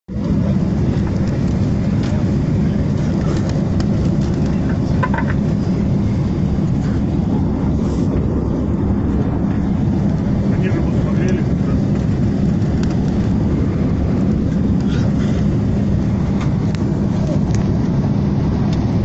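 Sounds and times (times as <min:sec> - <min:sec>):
airliner cabin engine rumble: 0:00.1 - 0:19.0.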